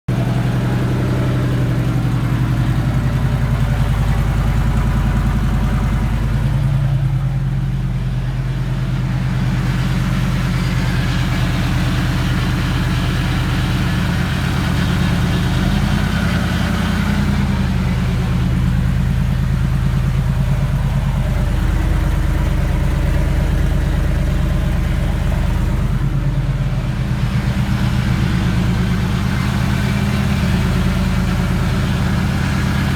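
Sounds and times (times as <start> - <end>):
loud unmuffled engine idling: 0.1 - 32.9.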